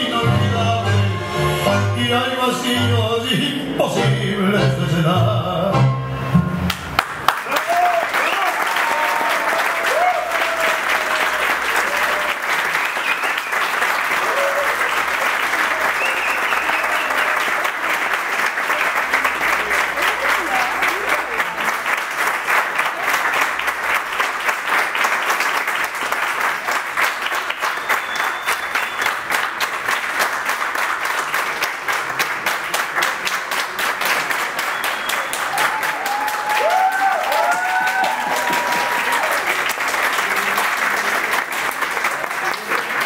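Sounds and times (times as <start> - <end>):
audience applauding: 6.7 - 43.0.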